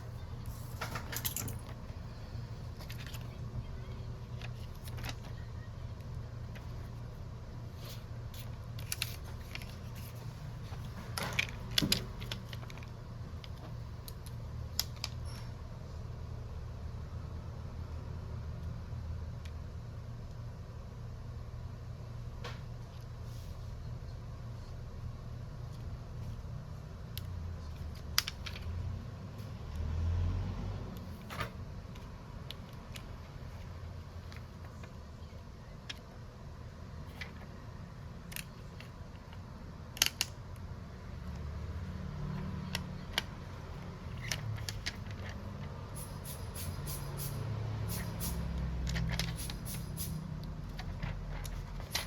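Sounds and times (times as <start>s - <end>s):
steady low hum: 0.0s - 29.6s, 30.7s - 52.0s.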